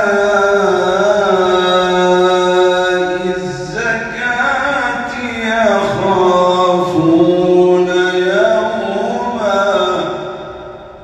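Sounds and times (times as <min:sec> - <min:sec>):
man chanting melodic recitation: 0:00.0 - 0:10.5.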